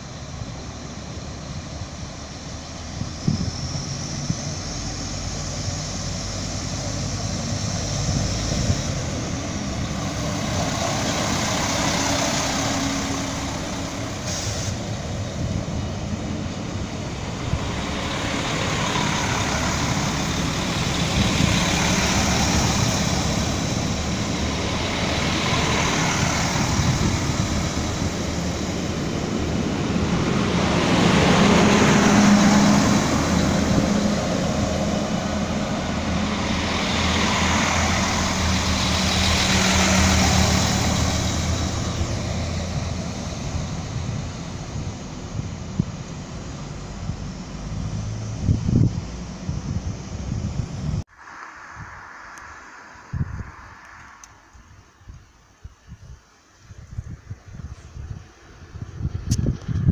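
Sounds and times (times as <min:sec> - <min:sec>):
diesel train engines droning: 0:00.0 - 0:59.8.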